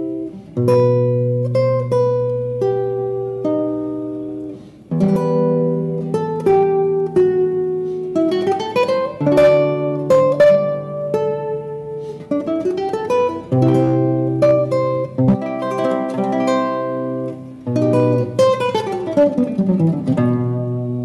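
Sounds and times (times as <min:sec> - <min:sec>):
classical guitar fingerstyle: 0:00.0 - 0:21.0.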